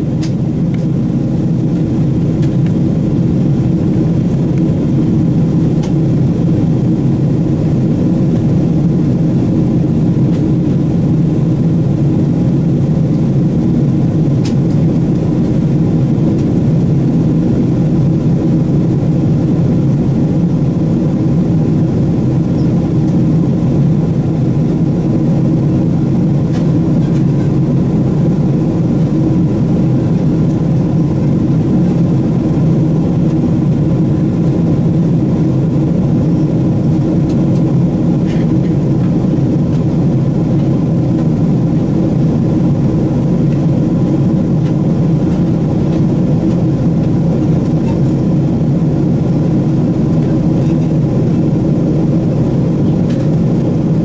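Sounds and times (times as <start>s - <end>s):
airplane cabin engine noise: 0.0s - 54.0s.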